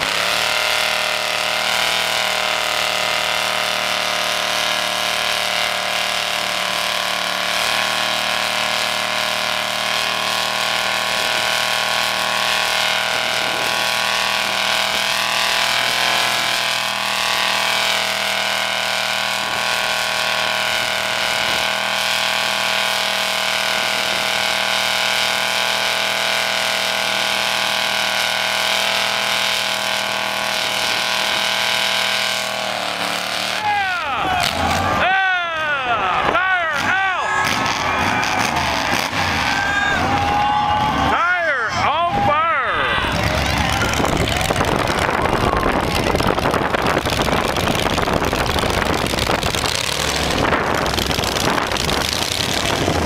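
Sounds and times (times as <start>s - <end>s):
engine revving high: 0.0s - 53.0s.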